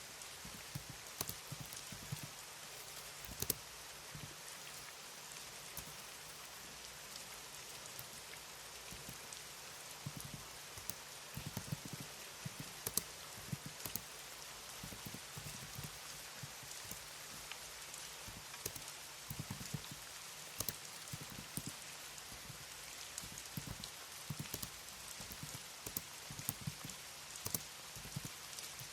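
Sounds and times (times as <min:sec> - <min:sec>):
background hiss: 0:00.0 - 0:28.9
keyboard typing: 0:00.0 - 0:28.9.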